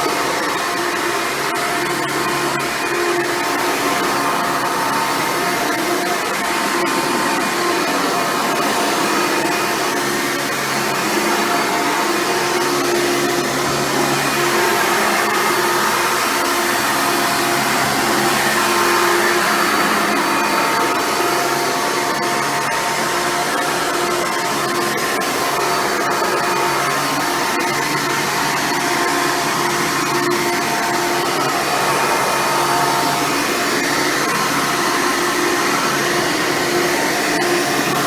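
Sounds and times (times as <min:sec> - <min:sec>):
upright vacuum cleaner running: 0:00.0 - 0:38.0.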